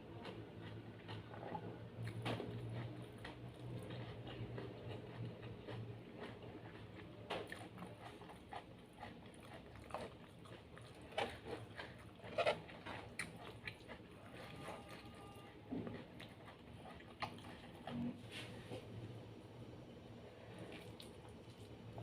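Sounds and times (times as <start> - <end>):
wet chewing and lip smacks: 0.2 - 18.0.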